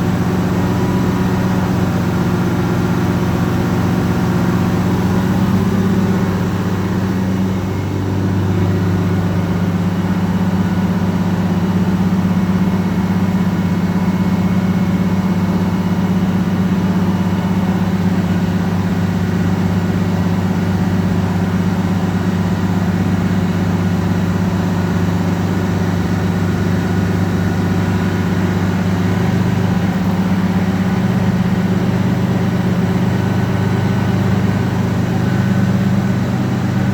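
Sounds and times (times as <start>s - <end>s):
fire truck engine droning: 0.0s - 36.9s.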